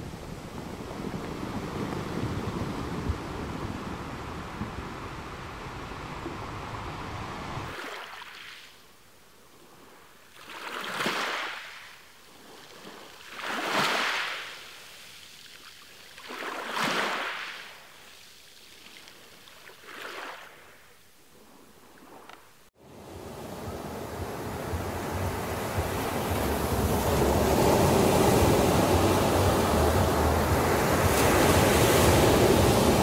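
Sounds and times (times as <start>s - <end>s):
sea waves washing in: 0.0s - 8.9s, 9.6s - 33.0s.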